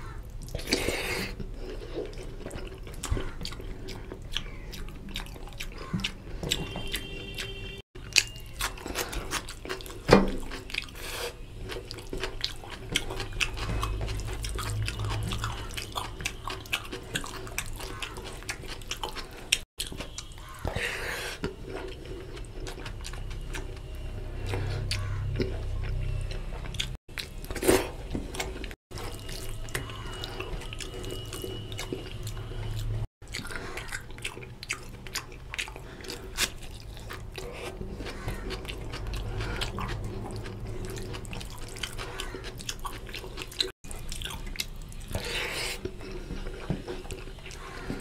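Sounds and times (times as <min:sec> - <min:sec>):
wet chewing and lip-smacking: 0:00.2 - 0:48.0.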